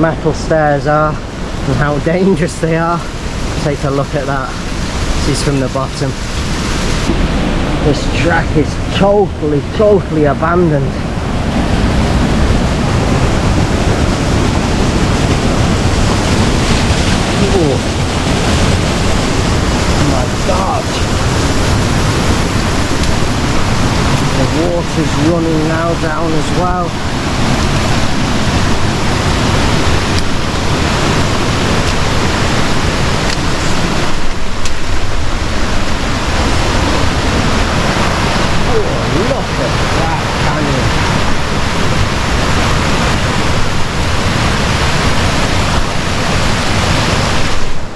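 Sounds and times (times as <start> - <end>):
loud waterfall rushing: 0.0 - 47.9.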